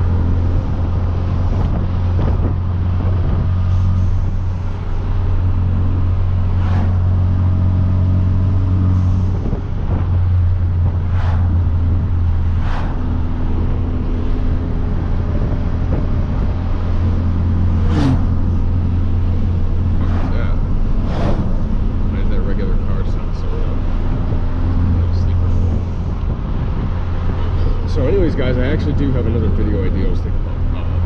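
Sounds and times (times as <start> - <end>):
car engine droning at cruise: 0.0 - 31.0.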